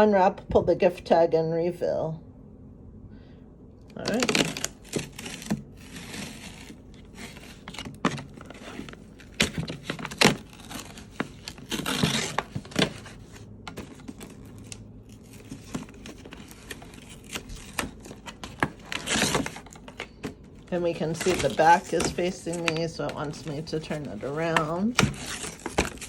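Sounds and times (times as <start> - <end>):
paper and tape tearing: 4.0 - 13.2, 13.8 - 26.0.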